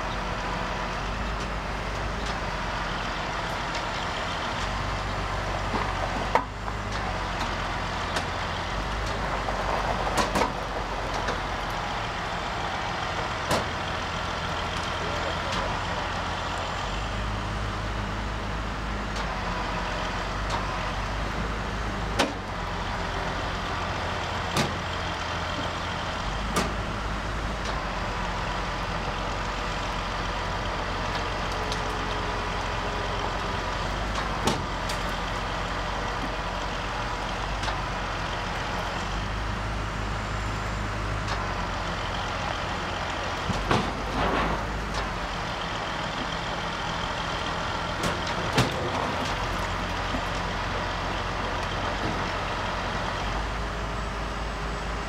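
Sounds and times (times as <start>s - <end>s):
diesel truck engines running: 0.0s - 55.0s.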